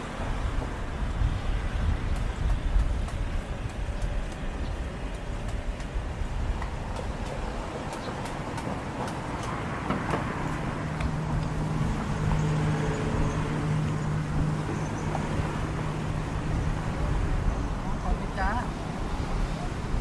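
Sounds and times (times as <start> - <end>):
street traffic: 0.0 - 20.0
vehicle engine humming: 0.0 - 20.0.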